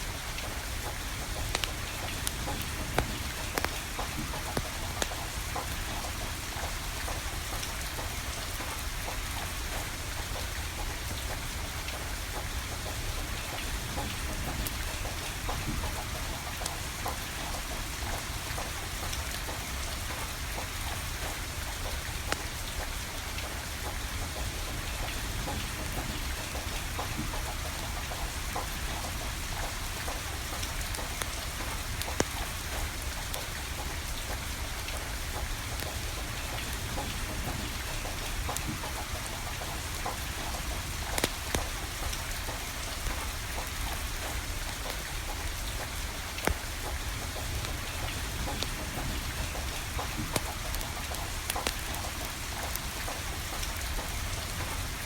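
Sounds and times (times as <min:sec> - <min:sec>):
steady rain falling: 0:00.0 - 0:55.0
wood fire crackling: 0:00.0 - 0:55.0.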